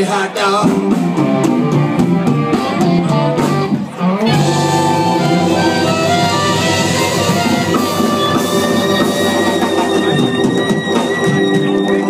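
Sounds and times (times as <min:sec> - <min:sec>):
drum kit: 0:00.0 - 0:12.0
live blues band playing: 0:00.0 - 0:12.0
electric guitar: 0:00.6 - 0:12.0.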